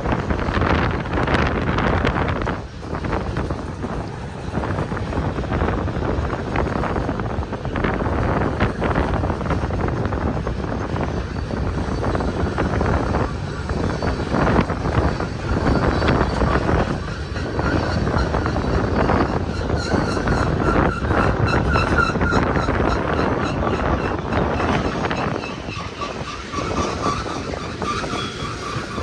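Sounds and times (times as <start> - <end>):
freight train rumbling past: 0.0 - 29.0
train wheels knocking and clattering: 0.0 - 29.0
wind buffeting microphone: 0.0 - 29.0.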